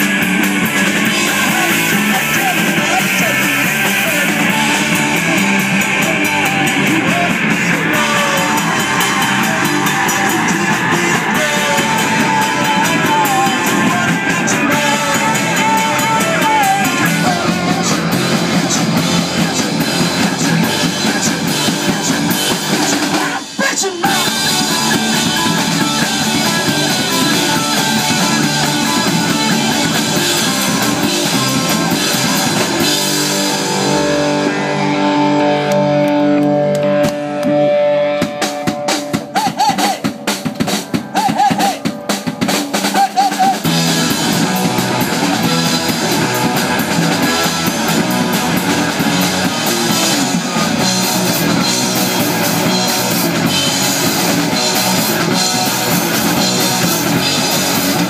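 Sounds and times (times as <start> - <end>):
bending lead guitar lines: 0.0 - 58.0
live rock band playing: 0.0 - 58.0.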